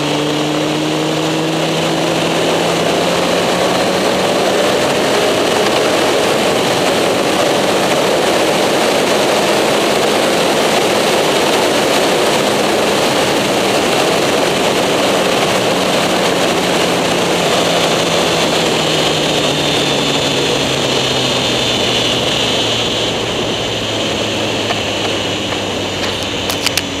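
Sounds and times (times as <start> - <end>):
motorcycle engine slowing: 0.0 - 27.0
wind rush: 0.0 - 27.0.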